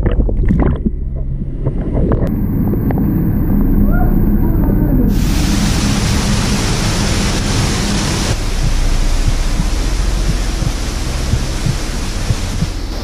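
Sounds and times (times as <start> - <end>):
waterfall rushing: 2.3 - 13.0.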